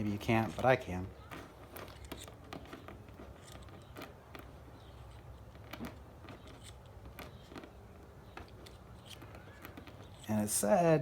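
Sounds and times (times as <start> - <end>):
chain tool clicking and creaking: 0.0 - 11.0.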